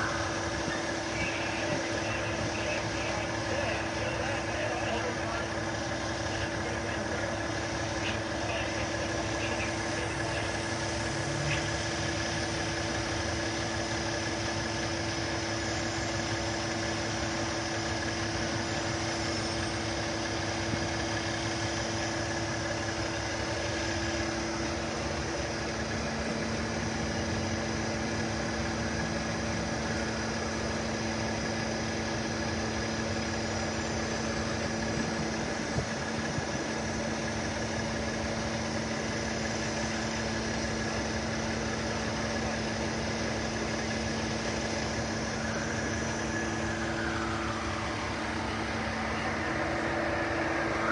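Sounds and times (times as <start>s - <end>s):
vehicle engine idling: 0.0s - 50.9s.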